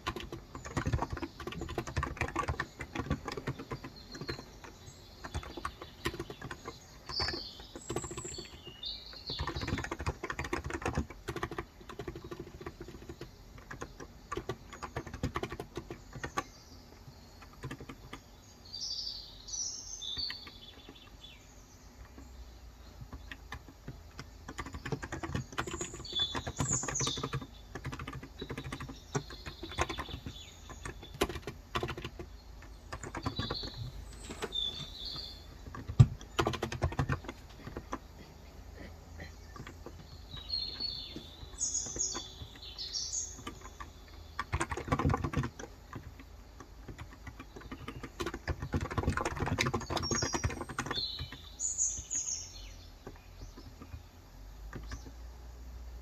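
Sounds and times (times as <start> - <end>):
keyboard typing: 0.0 - 18.3, 23.0 - 52.2
birds chirping: 0.0 - 56.0.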